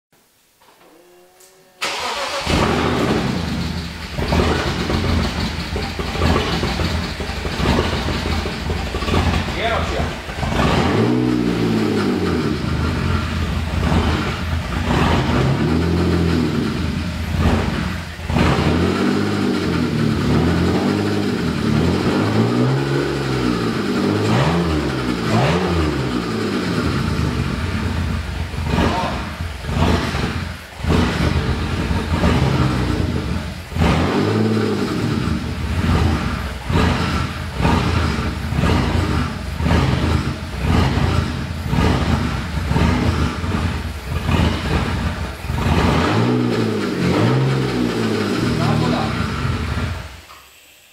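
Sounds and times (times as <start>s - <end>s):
car engine idling with throttle blips: 1.8s - 50.9s.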